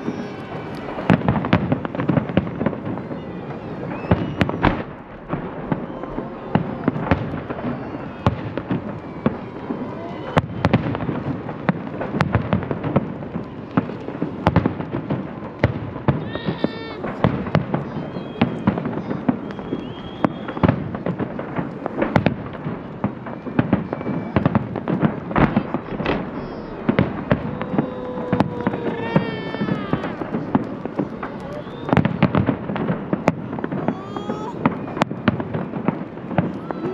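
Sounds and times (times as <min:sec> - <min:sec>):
crowd hubbub: 0:00.0 - 0:36.9
fireworks bangs and pops: 0:00.0 - 0:36.9.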